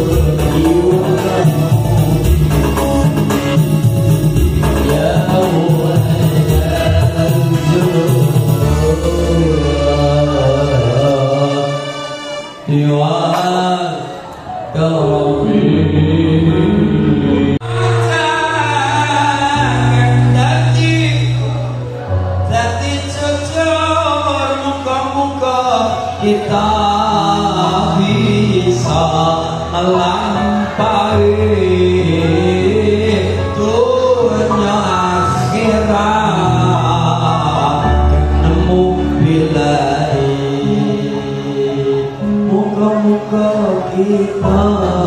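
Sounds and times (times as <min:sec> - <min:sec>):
man singing through microphone: 0:00.0 - 0:45.0.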